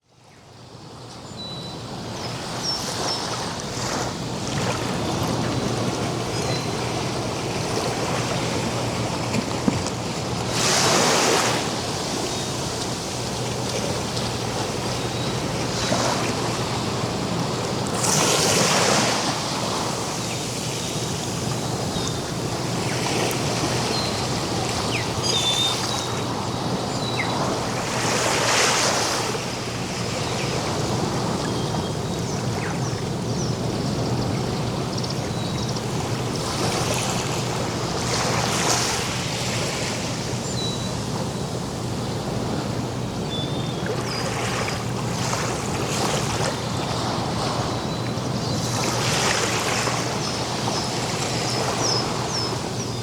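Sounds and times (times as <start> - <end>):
ocean surf washing onto beach: 2.9 - 53.0.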